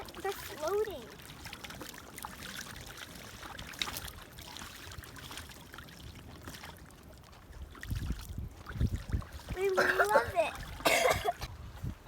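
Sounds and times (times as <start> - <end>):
ducks paddling in water: 0.0 - 11.5
light water splashes and drips: 0.0 - 11.9.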